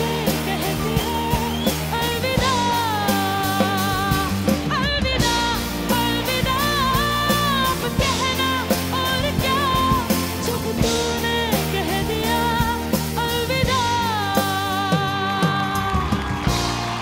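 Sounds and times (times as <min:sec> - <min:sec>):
boy singing with vibrato: 0:00.0 - 0:16.6
band with steady beat: 0:00.0 - 0:17.0.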